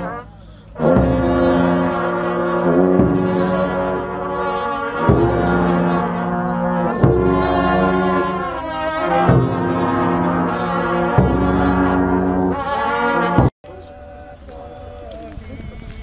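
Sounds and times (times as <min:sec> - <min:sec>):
brass band playing funeral march: 0:00.0 - 0:15.2.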